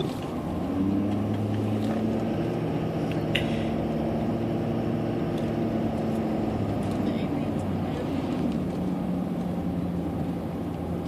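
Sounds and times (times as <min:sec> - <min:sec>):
car engine hum from inside: 0:00.0 - 0:11.0.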